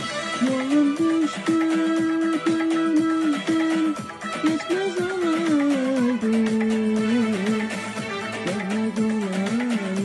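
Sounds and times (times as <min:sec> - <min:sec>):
plucked string accompaniment: 0:00.0 - 0:10.0.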